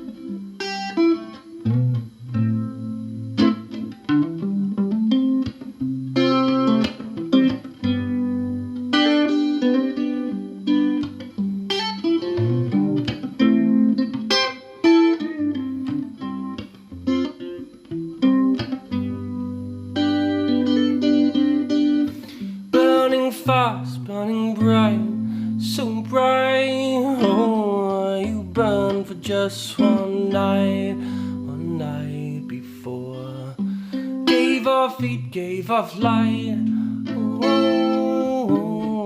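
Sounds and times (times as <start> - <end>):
fingerstyle guitar playing: 0.0 - 39.0.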